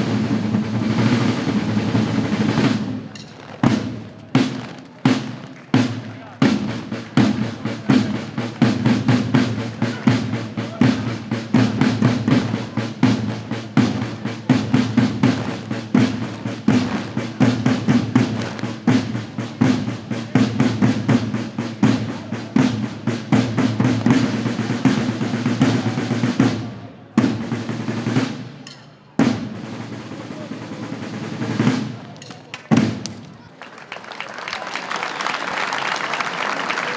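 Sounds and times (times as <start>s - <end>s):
marching snare and bass drums: 0.0s - 33.5s.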